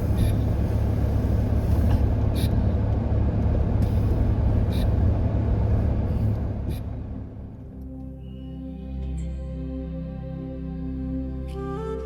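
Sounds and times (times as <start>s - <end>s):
vehicle driving rumble: 0.0s - 11.4s.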